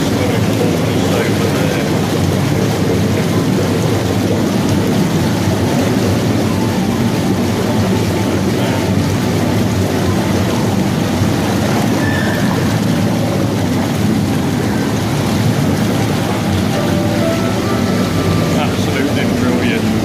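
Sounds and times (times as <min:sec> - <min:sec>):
jacuzzi jets churning water: 0:00.0 - 0:20.0.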